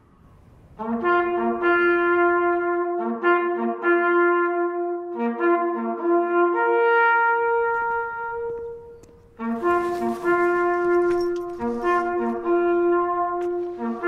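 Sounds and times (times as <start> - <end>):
bugle playing long notes: 0.6 - 14.0.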